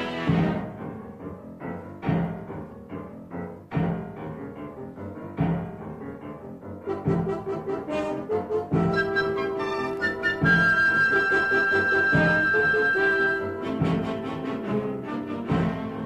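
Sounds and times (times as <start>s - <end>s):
classical music heavy low chords: 0.0s - 16.0s.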